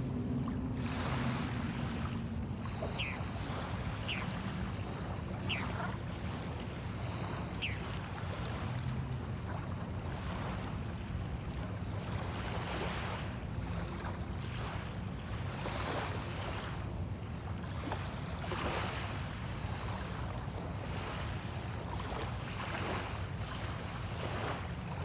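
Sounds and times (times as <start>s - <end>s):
small waves washing onto shore: 0.0s - 25.0s
wind rumble on microphone: 0.0s - 25.0s.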